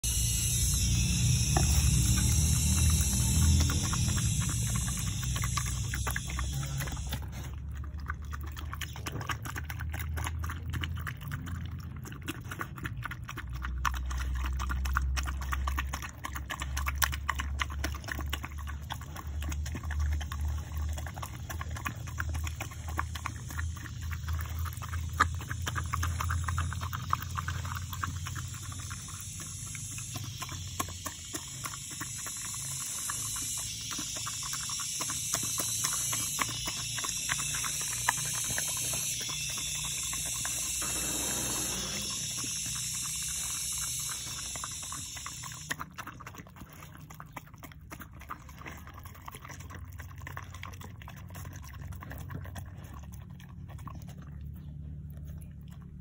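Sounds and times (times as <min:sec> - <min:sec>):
dog eating from a bowl: 0:00.0 - 0:56.0.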